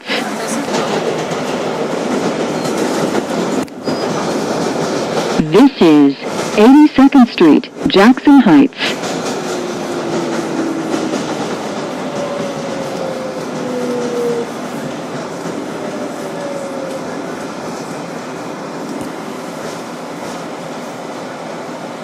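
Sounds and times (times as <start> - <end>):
subway train rumble and hiss: 0.0 - 22.0.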